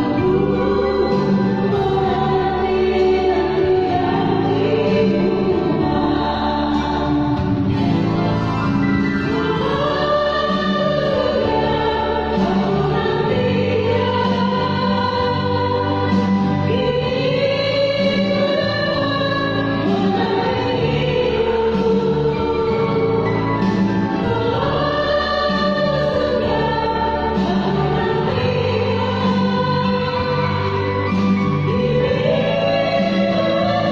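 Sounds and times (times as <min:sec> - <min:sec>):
choir singing slow hymn: 0:00.0 - 0:08.2, 0:09.2 - 0:33.9.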